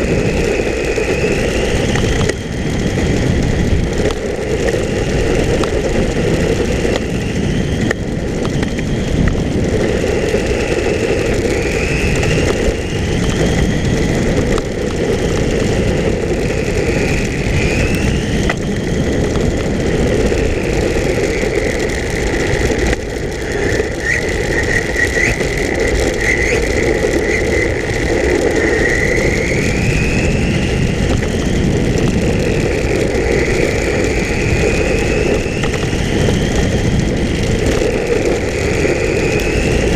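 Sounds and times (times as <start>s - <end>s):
rc car motor whining: 0.0s - 39.9s
steady rushing noise: 0.0s - 39.9s.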